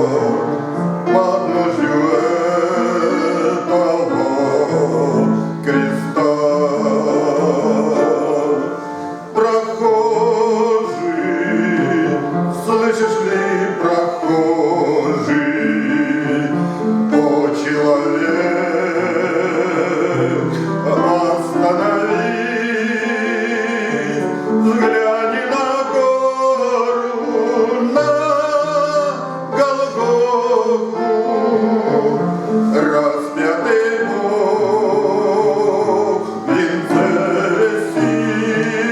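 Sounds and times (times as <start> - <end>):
instrumental accompaniment: 0.0 - 38.9
man singing a hymn: 0.0 - 38.9.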